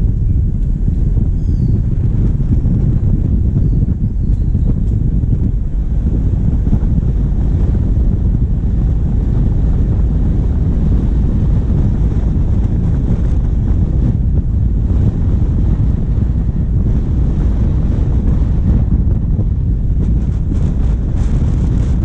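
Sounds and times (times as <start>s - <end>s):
diesel vehicle rumble: 0.0s - 22.0s
wind buffeting microphone: 0.0s - 22.0s.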